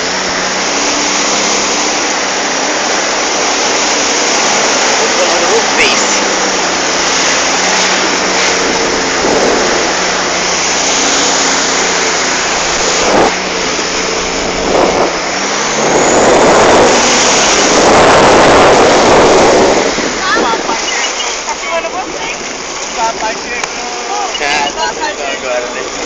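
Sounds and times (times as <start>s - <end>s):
jet ski engine drone: 0.0s - 26.0s
wind and water spray rushing: 0.0s - 26.0s.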